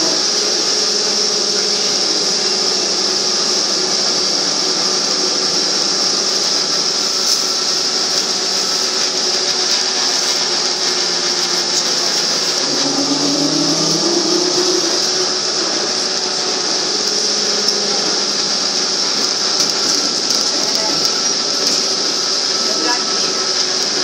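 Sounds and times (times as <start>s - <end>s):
electric motor hum: 0.0s - 24.0s
road and tyre noise: 0.0s - 24.0s.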